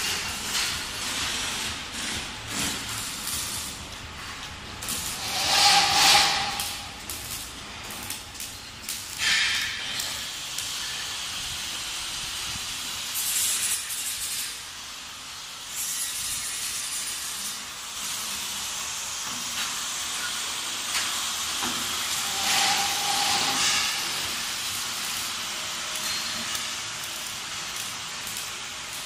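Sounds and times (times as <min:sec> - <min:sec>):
factory hissing background noise: 0:00.0 - 0:29.0.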